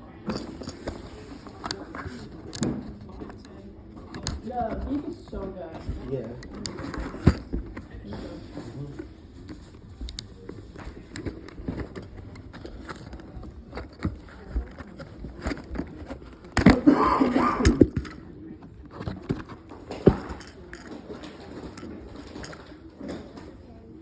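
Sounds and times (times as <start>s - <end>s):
toy packaging handling: 0.2s - 23.5s.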